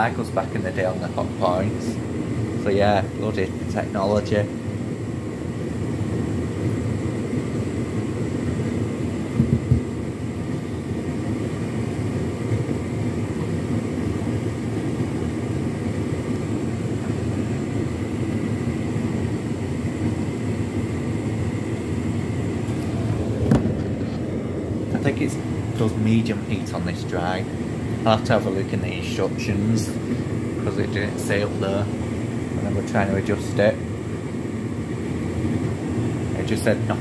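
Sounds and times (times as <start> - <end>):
faint steady whine: 0.0 - 37.0
tumble dryer rumbling: 0.0 - 37.0.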